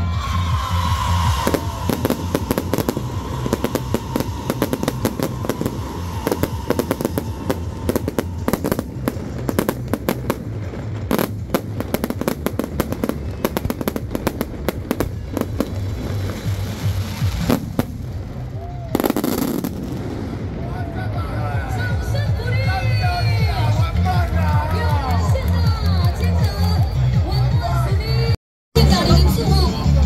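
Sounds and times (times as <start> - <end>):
fireworks bangs and crackles: 0.0 - 26.8.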